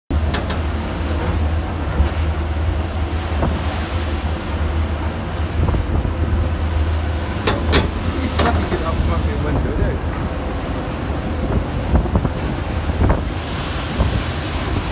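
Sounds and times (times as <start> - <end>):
rough sea rushing: 0.1 - 14.9
waves breaking: 0.1 - 14.9
wind rumbling on microphone: 0.1 - 14.9.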